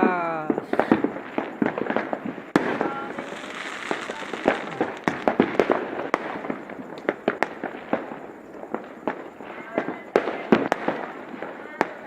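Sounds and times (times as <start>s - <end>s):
firework crackle: 0.0s - 12.0s
fireworks bangs and pops: 0.0s - 12.0s.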